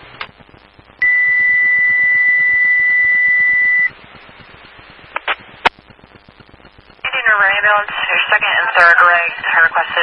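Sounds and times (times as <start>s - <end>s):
faint radio hiss: 0.0s - 2.4s, 3.9s - 10.0s.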